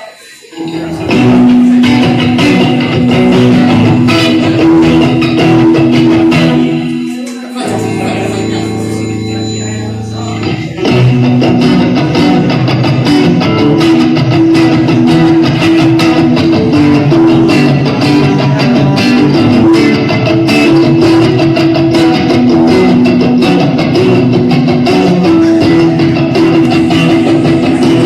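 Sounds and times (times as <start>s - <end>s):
held guitar chord ringing: 0.5s - 28.0s
live rock band playing: 0.5s - 28.0s.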